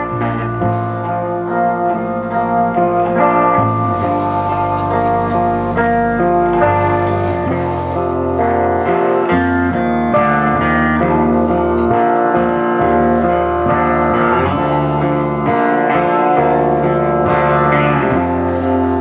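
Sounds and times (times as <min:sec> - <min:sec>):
live band instrumental with guitar: 0:00.0 - 0:19.0.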